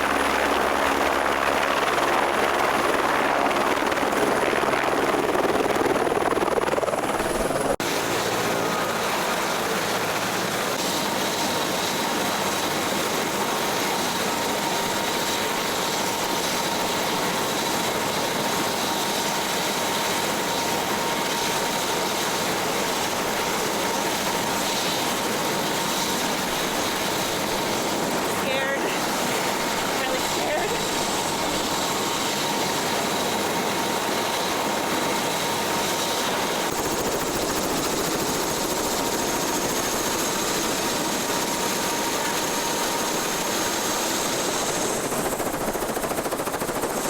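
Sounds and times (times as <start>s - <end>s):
helicopter rotor and engine noise: 0.0s - 47.0s.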